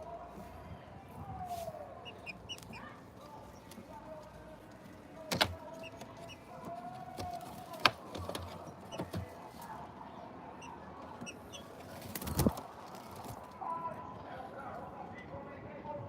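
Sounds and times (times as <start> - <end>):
small birds chirping: 1.8 - 15.0.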